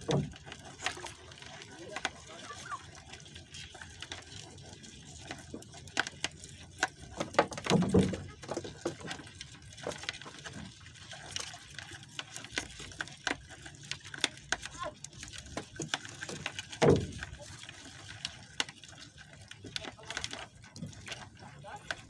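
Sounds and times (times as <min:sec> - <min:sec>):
water lapping against boat: 0:00.0 - 0:22.0.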